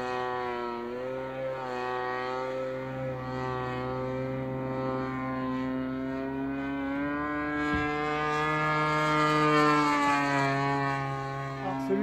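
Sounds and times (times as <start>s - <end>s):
model plane engine buzzing: 0.0s - 12.0s.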